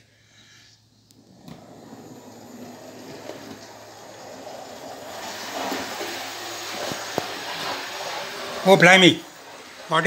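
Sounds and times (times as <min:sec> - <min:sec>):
model steam locomotive whirring: 0:01.1 - 0:10.0.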